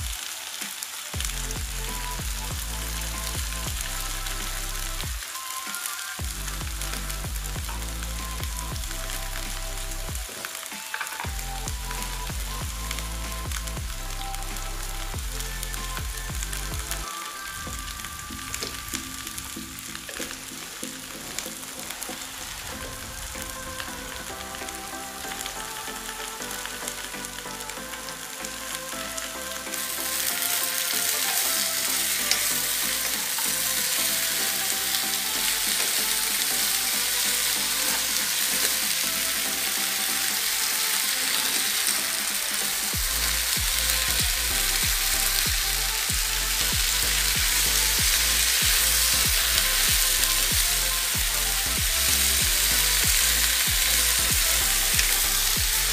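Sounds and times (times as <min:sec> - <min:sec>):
vegetables sizzling in hot oil: 0:00.0 - 0:55.9.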